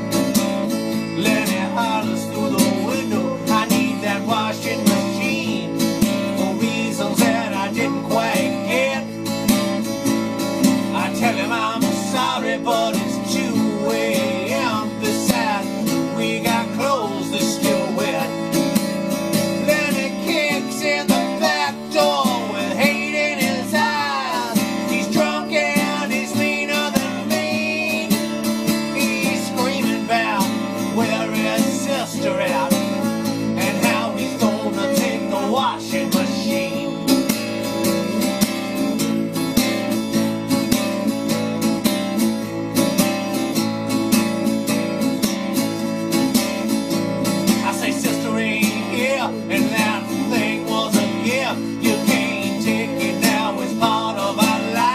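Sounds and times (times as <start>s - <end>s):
lead guitar with sliding notes: 0.0s - 54.9s
strummed acoustic guitar: 0.0s - 54.9s.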